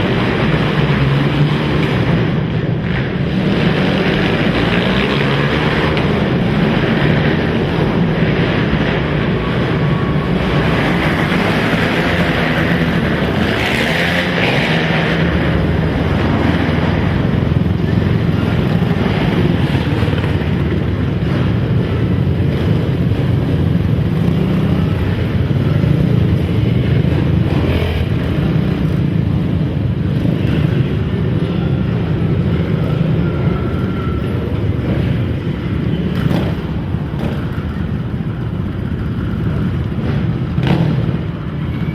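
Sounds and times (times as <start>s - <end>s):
quad engines droning: 0.0s - 41.9s.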